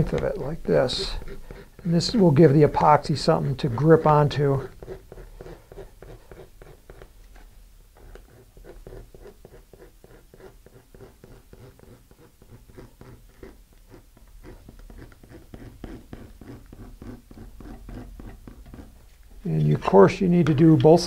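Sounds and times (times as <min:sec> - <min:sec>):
knife blade scratching fiberglass: 0:00.0 - 0:19.9.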